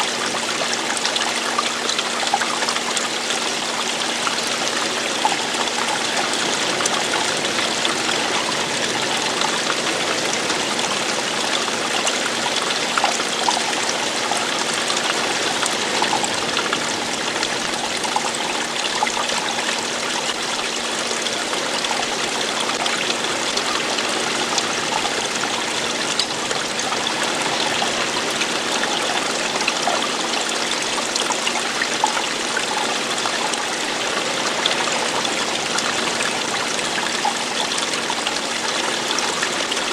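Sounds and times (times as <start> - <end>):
stream splashing and trickling: 0.0 - 39.9.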